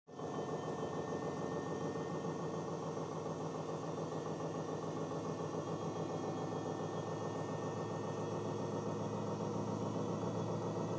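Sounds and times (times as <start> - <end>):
washing machine spinning: 0.1 - 10.9.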